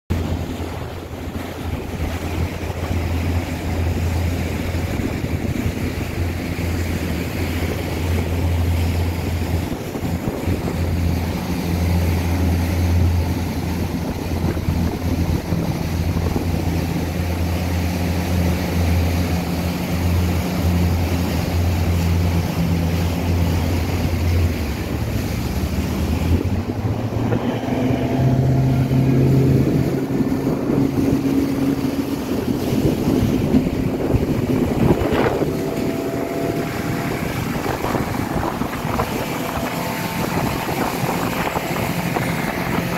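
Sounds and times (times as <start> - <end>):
water noise: 0.0 - 42.9
wind: 0.0 - 42.9
motorboat engine running: 0.1 - 42.9.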